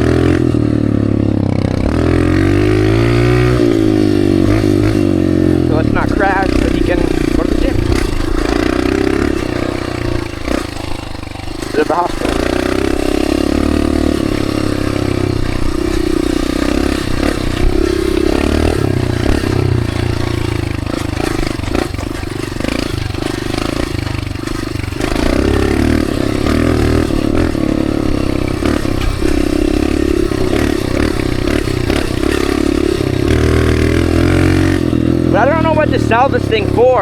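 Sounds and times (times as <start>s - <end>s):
dirt bike engine buzzing: 0.0s - 37.0s.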